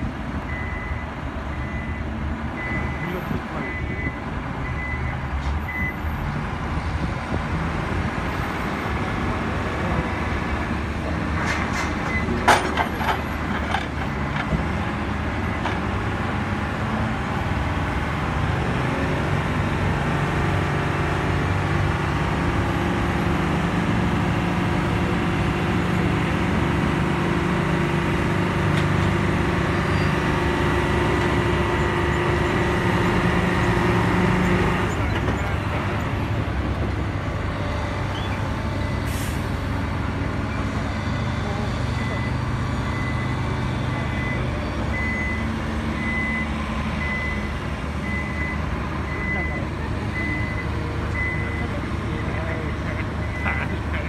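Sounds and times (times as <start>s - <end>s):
diesel engines running: 0.0s - 54.0s
truck diesel engine approaching: 0.0s - 54.0s.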